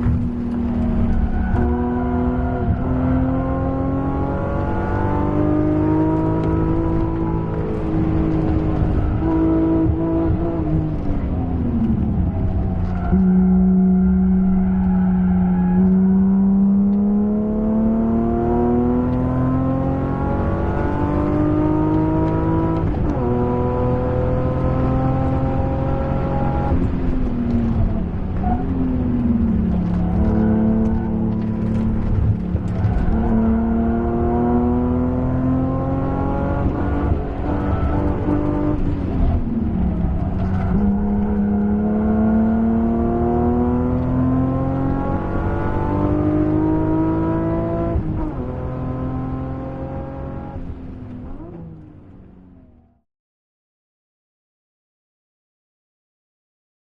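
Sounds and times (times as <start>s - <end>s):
car engine revving in cabin: 0.0s - 53.0s.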